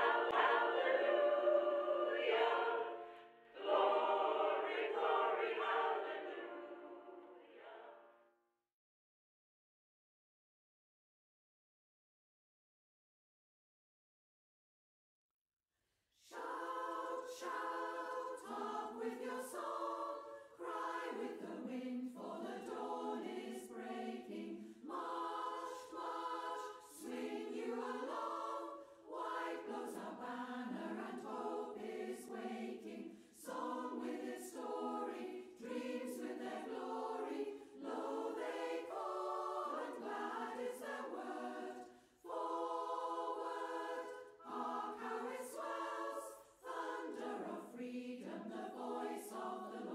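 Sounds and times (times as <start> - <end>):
choir singing: 0.0 - 8.3, 16.2 - 49.9.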